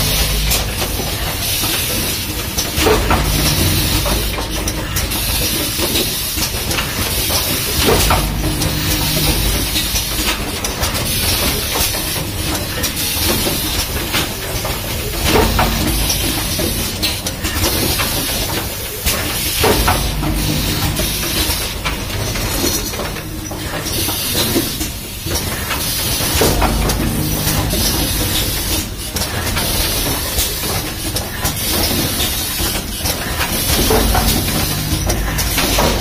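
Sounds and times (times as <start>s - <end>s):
machine hiss and hum: 0.0s - 36.0s
mechanism clicks and knocks: 0.0s - 36.0s.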